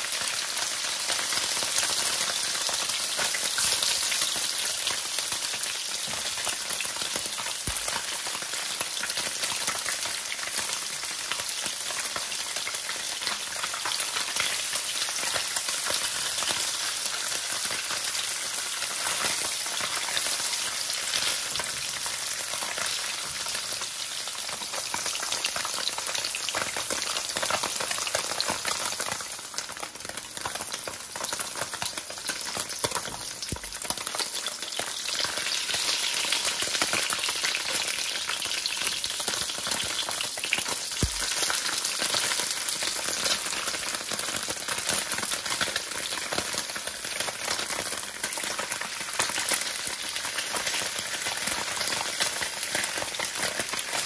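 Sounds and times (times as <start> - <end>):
tofu sizzling in oil: 0.0 - 54.0.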